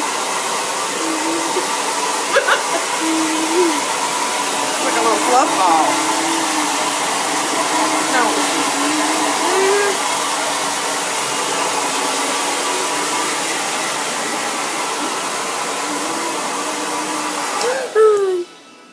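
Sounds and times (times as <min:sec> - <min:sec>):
hair dryer blowing: 0:00.0 - 0:18.9.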